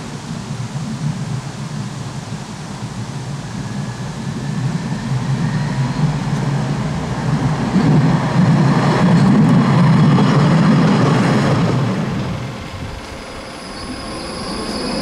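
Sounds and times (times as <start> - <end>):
tram rumbling along rails: 0.0 - 15.0.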